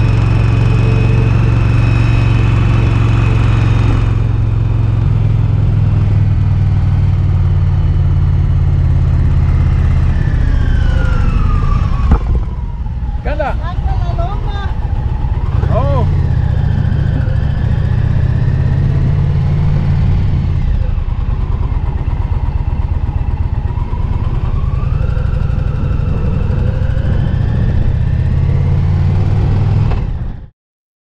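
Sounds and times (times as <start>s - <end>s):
motorcycle engine rumbling: 0.0s - 30.5s.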